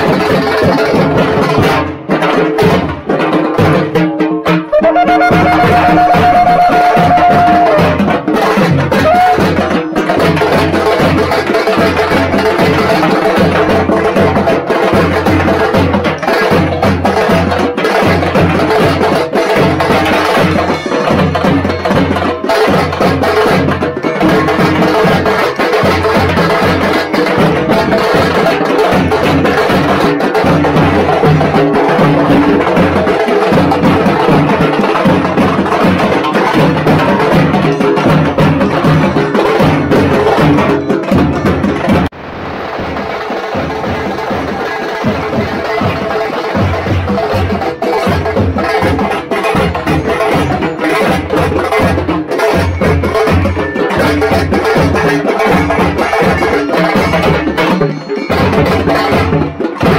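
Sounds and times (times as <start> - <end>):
frame drums beaten with sticks: 0.0 - 59.9
large cylindrical drums: 0.0 - 59.9.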